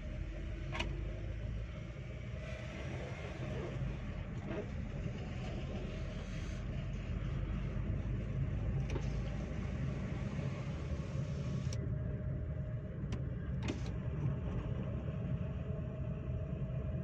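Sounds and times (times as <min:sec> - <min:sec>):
tyre road noise: 0:00.0 - 0:16.9
car engine rumble: 0:00.0 - 0:17.0.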